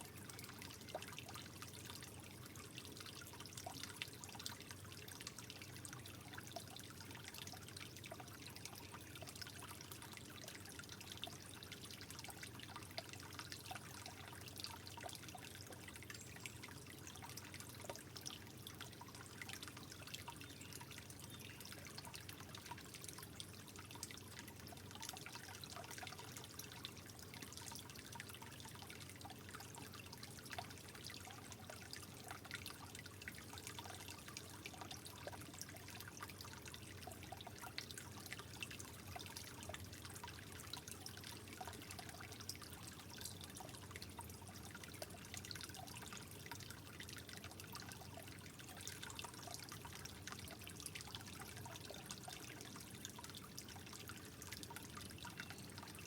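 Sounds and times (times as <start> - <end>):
water trickling and dripping: 0.0 - 56.0.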